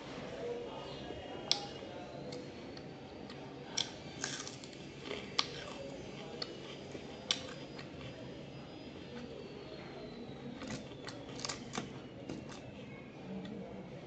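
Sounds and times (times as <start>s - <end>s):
chewing fried fish: 1.4s - 13.6s.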